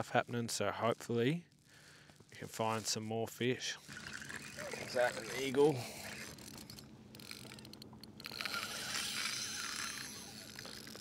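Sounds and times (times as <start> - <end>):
fishing reel drag clicking: 0.9 - 11.0.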